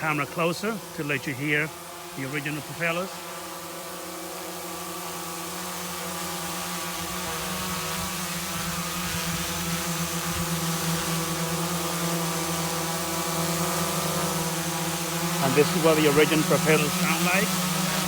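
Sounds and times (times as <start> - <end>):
quadcopter drone buzzing: 0.0 - 18.0.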